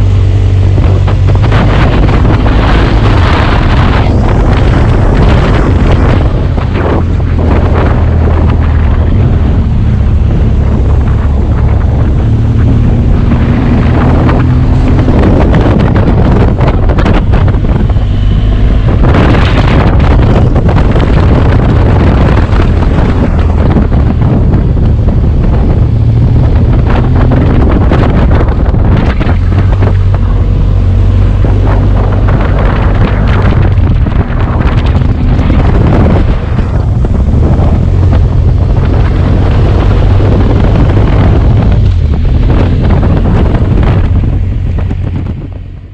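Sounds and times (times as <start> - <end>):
motorcycle engine running: 0.0 - 45.9
wind buffeting microphone: 0.0 - 45.9.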